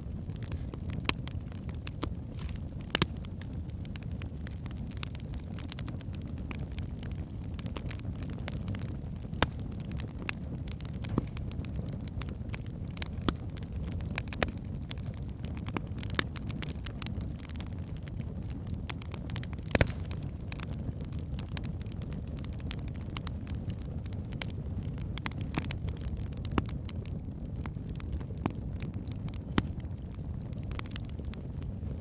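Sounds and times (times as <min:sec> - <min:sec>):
fire crackling in fireplace: 0:00.0 - 0:32.0.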